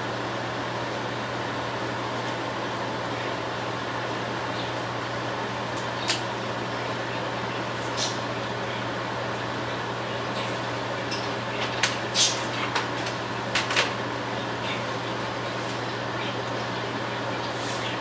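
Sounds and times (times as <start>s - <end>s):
gas burners hissing: 0.0s - 18.0s.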